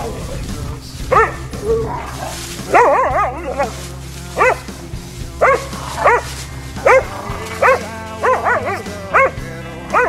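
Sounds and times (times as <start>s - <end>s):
puppies yelping: 1.1s - 10.0s.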